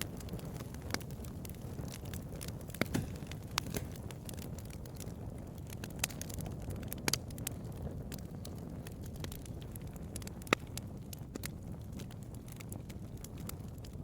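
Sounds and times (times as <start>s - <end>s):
bonfire roaring: 0.0s - 14.0s
wood crackling and popping: 0.0s - 14.0s.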